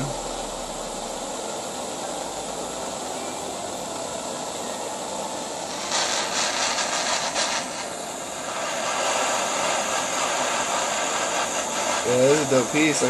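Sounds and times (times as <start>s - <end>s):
butane torch flame hissing: 0.0s - 13.0s.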